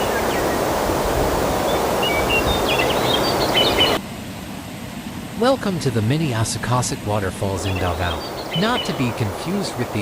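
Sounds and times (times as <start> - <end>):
birds chirping: 0.0 - 4.0, 5.9 - 10.0
waterfall rushing over rocks: 0.0 - 4.1, 4.9 - 10.0.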